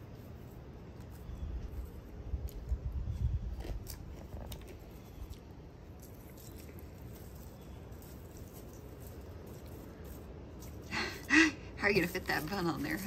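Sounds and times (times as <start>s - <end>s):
crisp bacon crackling: 0.0s - 13.0s.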